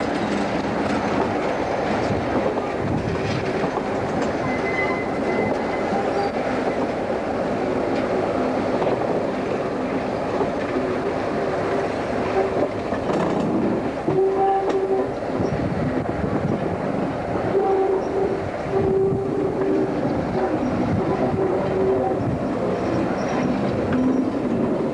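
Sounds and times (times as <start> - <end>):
diesel locomotive engine: 0.0 - 24.9.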